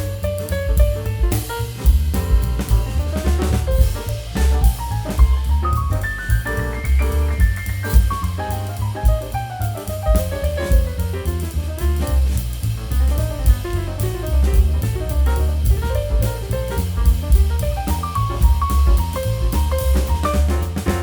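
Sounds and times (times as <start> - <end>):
jazzy instrumental music: 0.0 - 21.0.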